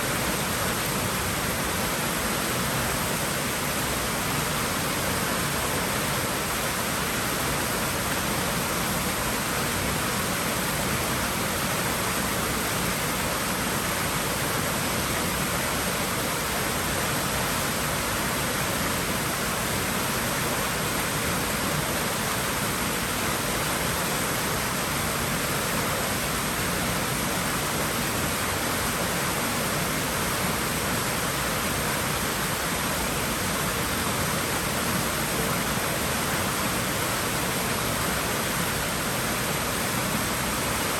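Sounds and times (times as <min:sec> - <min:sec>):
pool water rushing: 0:00.0 - 0:40.9.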